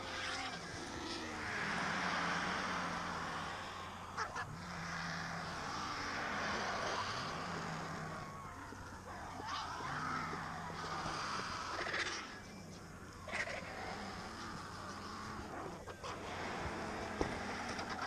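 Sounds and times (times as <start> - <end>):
vultures calling harshly: 0.0 - 18.0.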